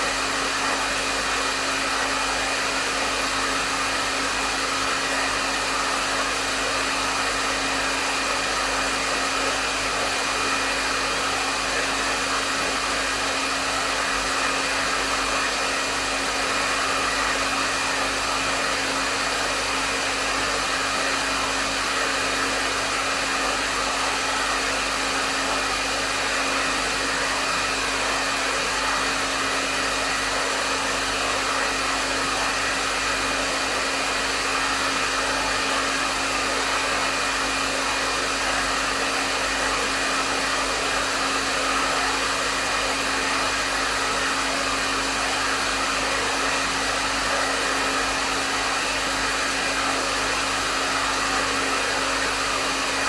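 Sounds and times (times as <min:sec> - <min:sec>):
hair dryer running: 0:00.0 - 0:53.0.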